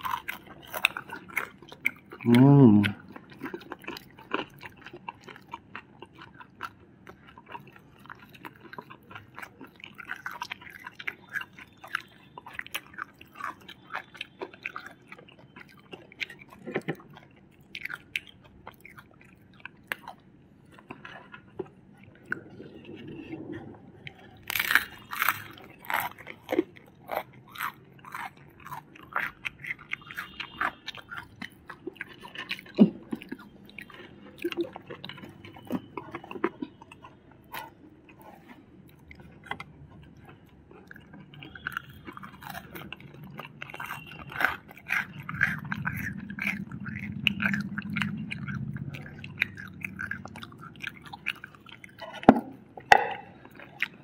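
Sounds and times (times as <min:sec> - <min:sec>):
crunchy chewing: 0:00.0 - 0:54.0.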